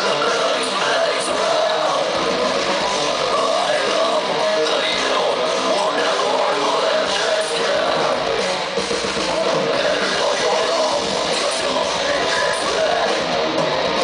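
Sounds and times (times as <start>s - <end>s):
distorted electric guitars: 0.0s - 14.0s
drum kit: 0.0s - 14.0s.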